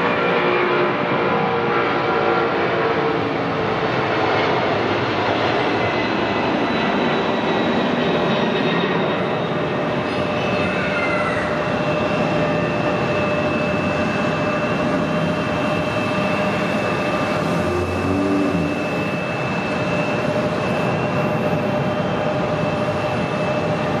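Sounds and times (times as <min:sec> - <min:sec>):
jet engines rumbling with high whine: 0:00.0 - 0:24.0.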